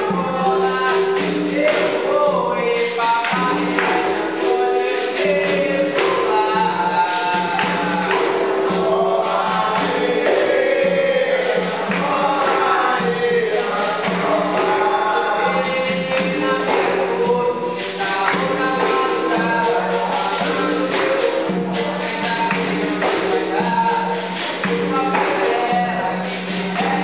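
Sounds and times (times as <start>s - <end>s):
group singing: 0.0s - 27.0s
hand clapping: 0.0s - 27.0s
hand drum: 0.0s - 27.0s.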